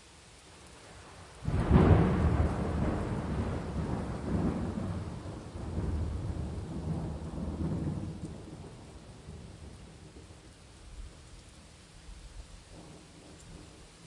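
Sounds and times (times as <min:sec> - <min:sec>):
rain falling: 0:00.0 - 0:14.0
low roll of thunder: 0:01.0 - 0:11.2, 0:12.2 - 0:14.0.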